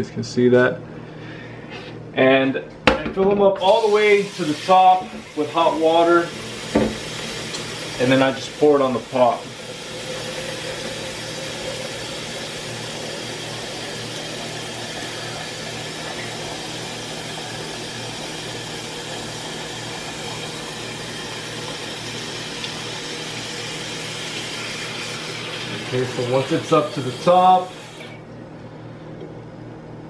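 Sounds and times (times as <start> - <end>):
water running into a plastic pitcher: 3.6 - 28.2.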